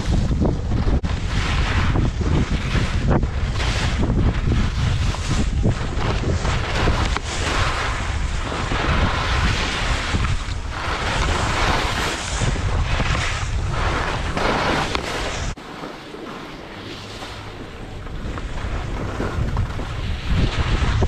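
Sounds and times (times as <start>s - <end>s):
wind buffeting the microphone: 0.0s - 15.6s, 17.1s - 21.0s.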